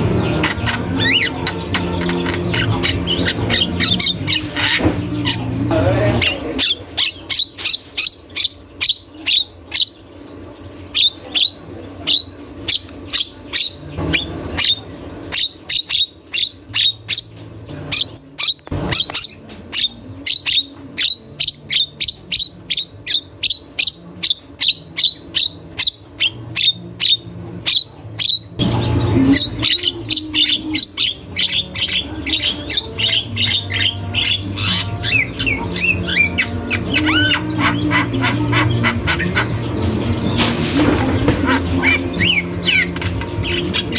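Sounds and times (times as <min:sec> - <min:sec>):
bird chattering song: 0:00.0 - 0:43.9
myna bird calling: 0:00.0 - 0:43.9.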